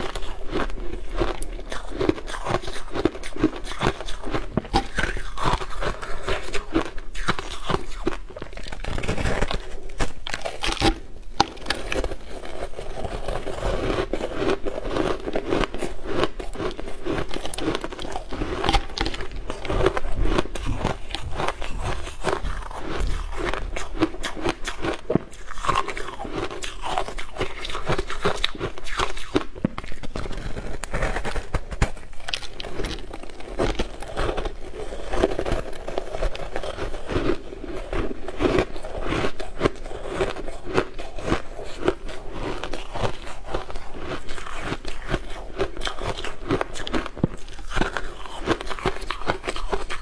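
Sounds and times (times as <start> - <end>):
ice being chewed: 0.0 - 50.0.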